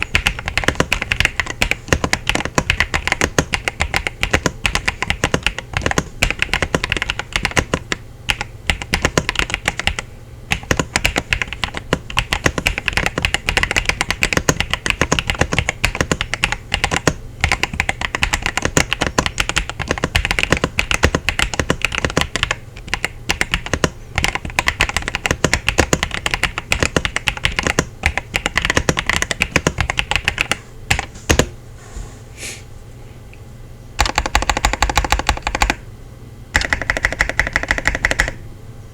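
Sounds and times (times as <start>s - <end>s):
mechanical keyboard typing: 0.0s - 31.5s, 34.0s - 35.8s, 36.5s - 38.4s.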